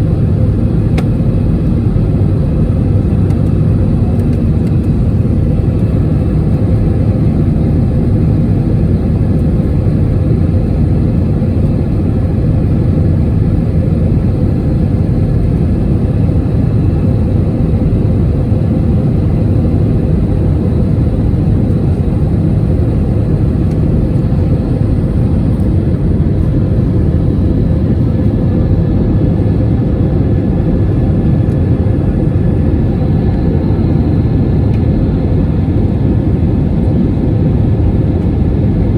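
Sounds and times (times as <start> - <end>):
faint steady whine: 0.0 - 38.9
jet engine and airflow roar: 0.0 - 38.9.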